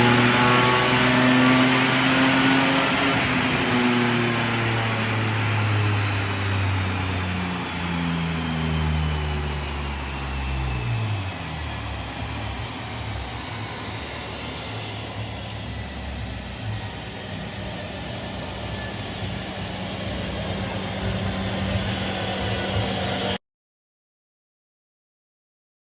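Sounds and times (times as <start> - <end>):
dyno rollers whine: 0.0 - 23.4
steady hum and rushing: 0.0 - 23.4.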